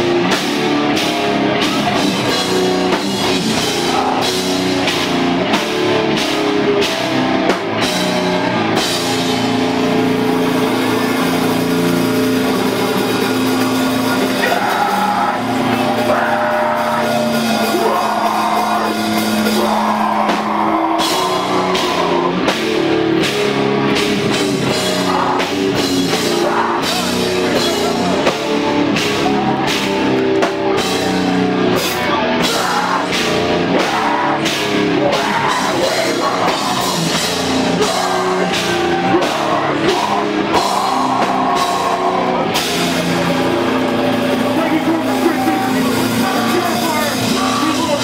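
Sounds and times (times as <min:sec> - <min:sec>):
distorted electric guitars and bass: 0:00.0 - 0:48.0
drum kit beat: 0:00.0 - 0:48.0.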